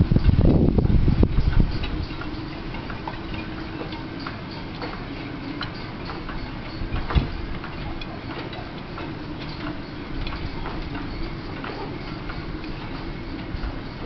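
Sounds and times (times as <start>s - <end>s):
steady low hum: 0.0s - 14.0s
rigging clinking against masts: 0.1s - 14.0s.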